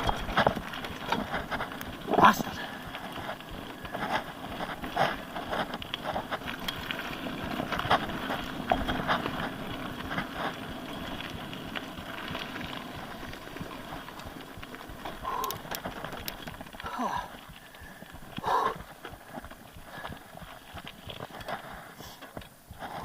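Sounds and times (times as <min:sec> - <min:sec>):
bicycle tyre noise on trail: 0:00.0 - 0:23.0
bike knocking and clattering: 0:00.0 - 0:23.0.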